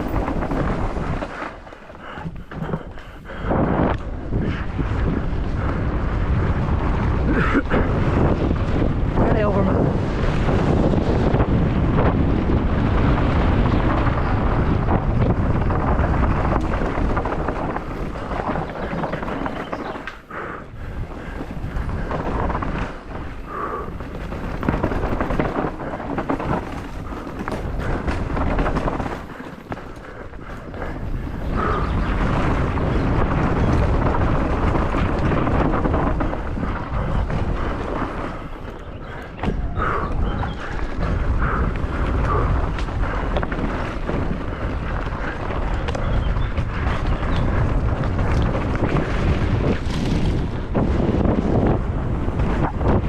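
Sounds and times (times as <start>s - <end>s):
bike knocking and rattling: 0.0s - 53.0s
wind buffeting microphone: 0.0s - 53.0s.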